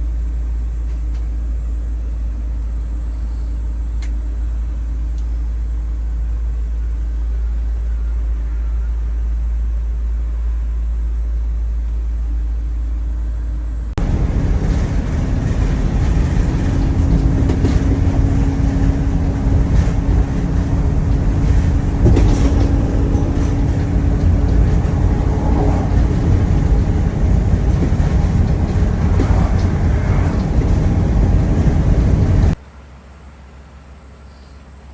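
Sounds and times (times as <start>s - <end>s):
engine running: 0.0s - 34.9s
rough engine rumble with drone: 0.0s - 34.9s.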